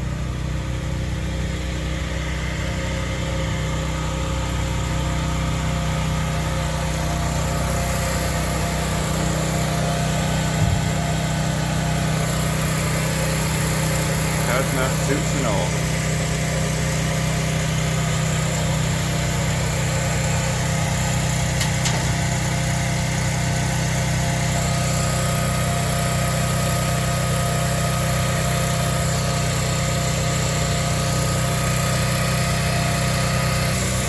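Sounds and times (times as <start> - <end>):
generator engine humming: 0.0 - 34.0.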